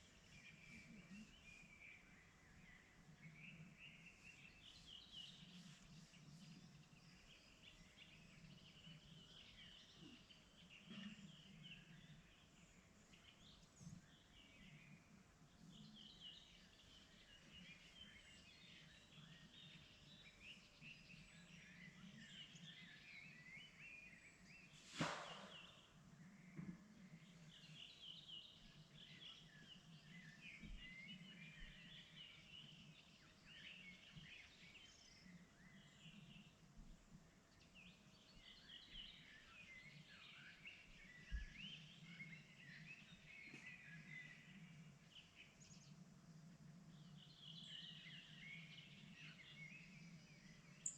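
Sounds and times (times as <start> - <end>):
songbirds chirping and twittering: 0.0 - 50.9.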